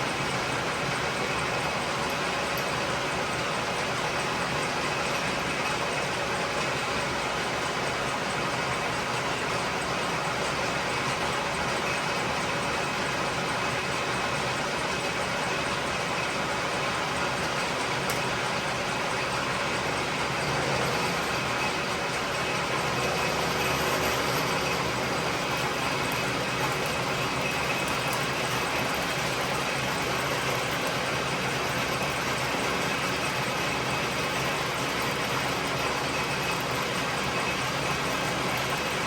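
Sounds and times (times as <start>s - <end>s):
lathe running: 0.0s - 39.0s.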